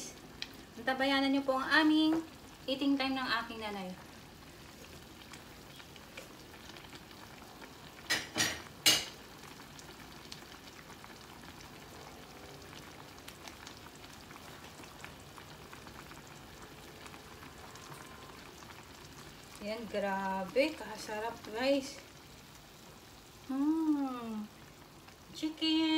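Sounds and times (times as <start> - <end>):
soup simmering and bubbling: 0.0 - 25.9.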